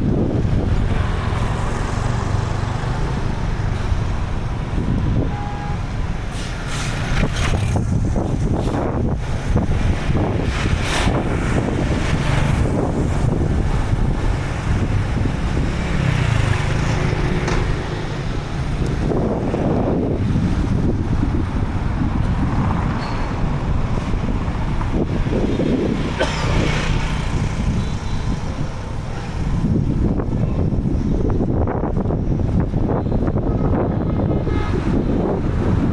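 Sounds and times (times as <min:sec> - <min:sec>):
vehicles passing: 0:00.0 - 0:35.9
wind buffeting microphone: 0:00.0 - 0:35.9.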